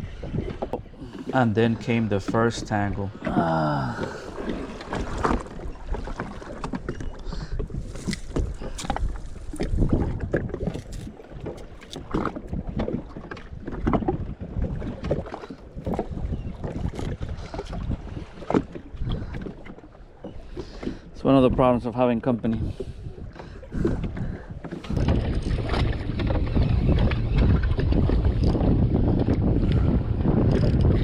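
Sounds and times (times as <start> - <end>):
water slapping against hull: 0.0 - 31.0
wind buffeting microphone: 0.0 - 31.0.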